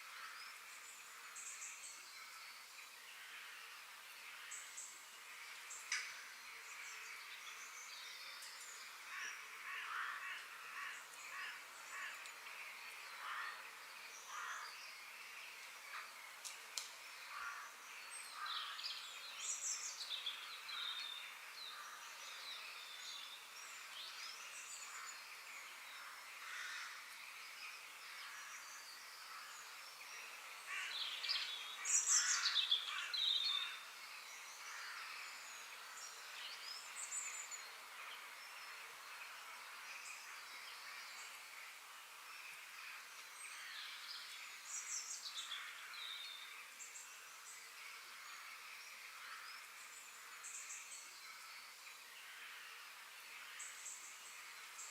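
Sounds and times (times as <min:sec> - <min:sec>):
birds calling and chirping: 0:00.0 - 0:52.3
steady background hiss: 0:00.0 - 0:54.9.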